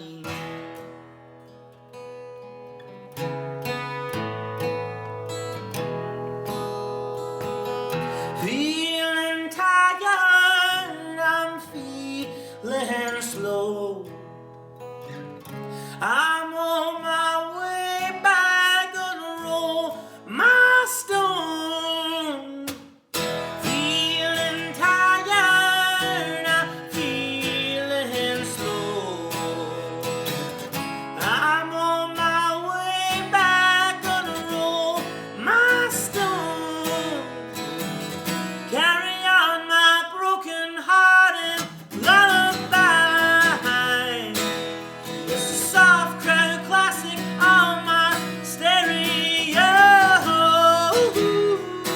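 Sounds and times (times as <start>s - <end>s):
strummed acoustic guitar: 0.0s - 51.9s
person singing: 5.8s - 14.1s, 15.9s - 51.9s.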